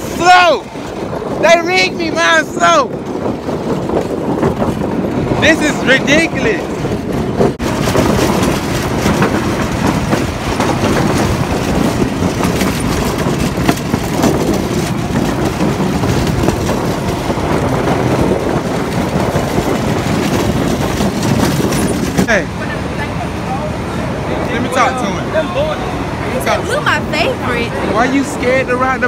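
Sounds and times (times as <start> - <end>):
go-kart motor and wheel rumble: 0.0 - 29.0.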